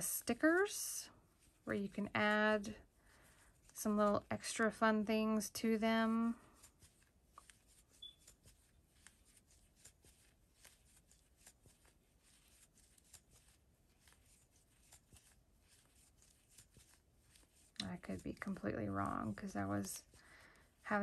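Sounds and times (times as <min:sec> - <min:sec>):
yarn rustling: 0:00.0 - 0:21.0.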